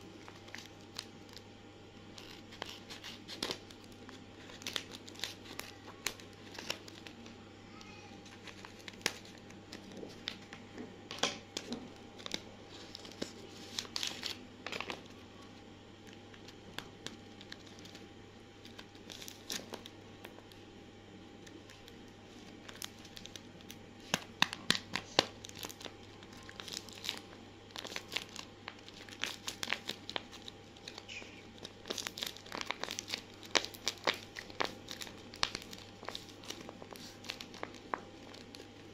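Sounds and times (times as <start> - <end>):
paper and tape crinkling and tearing: 0.0 - 20.6, 21.4 - 38.9.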